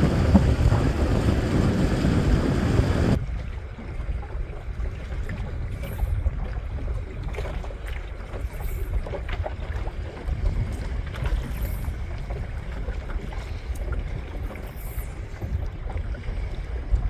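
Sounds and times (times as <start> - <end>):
water lapping against boat hull: 0.0 - 17.0
wind noise on microphone: 0.0 - 17.0.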